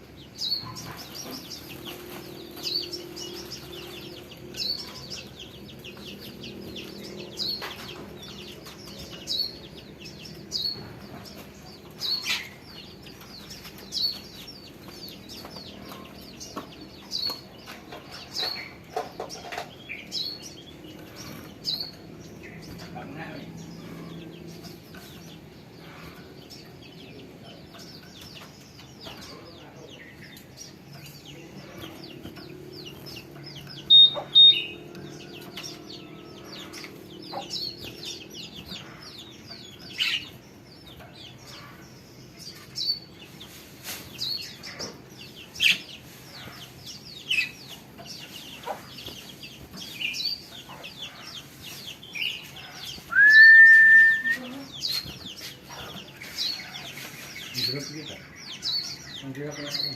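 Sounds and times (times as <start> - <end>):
small songbirds chirping: 0.0 - 59.9.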